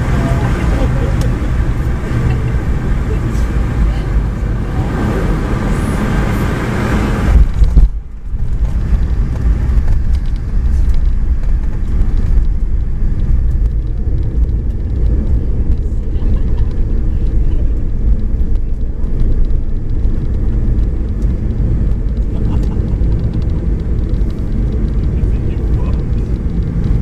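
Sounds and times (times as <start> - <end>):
aircraft cabin engine and airflow rush: 0.0 - 27.0
low steady rumble: 0.0 - 27.0.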